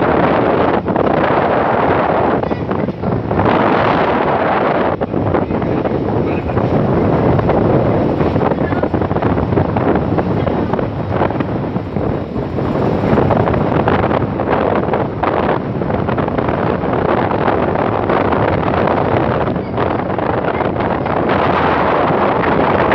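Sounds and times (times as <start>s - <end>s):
running train: 0.0s - 22.9s
wind buffeting microphone: 0.0s - 22.9s.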